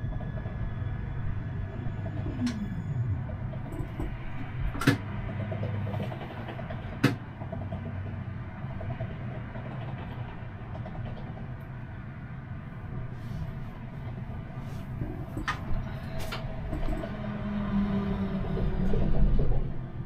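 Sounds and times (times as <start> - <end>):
tram humming and rumbling: 0.0 - 20.0.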